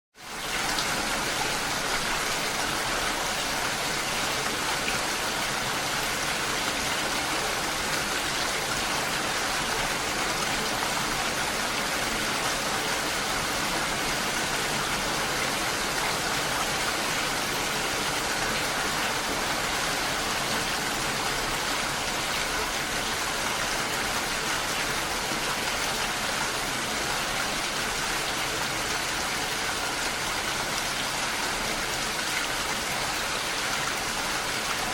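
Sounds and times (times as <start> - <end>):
rain falling on a lake: 0.2 - 34.9.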